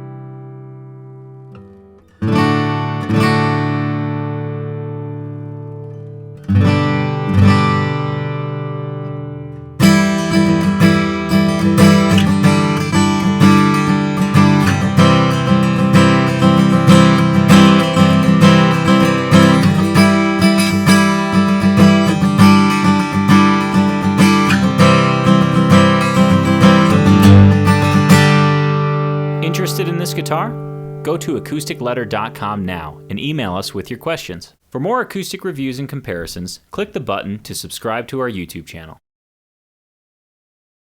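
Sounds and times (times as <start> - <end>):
acoustic guitar chords ringing: 0.0 - 34.2
acoustic guitar strumming: 0.0 - 34.2.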